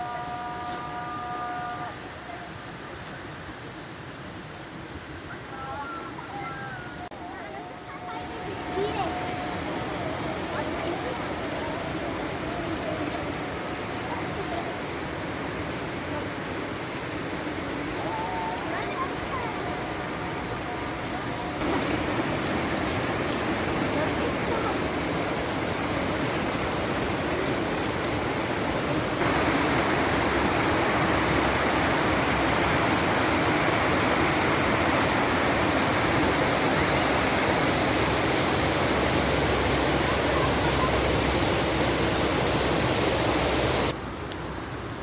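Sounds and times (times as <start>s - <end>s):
fast-flowing water rushing: 0.0s - 44.2s.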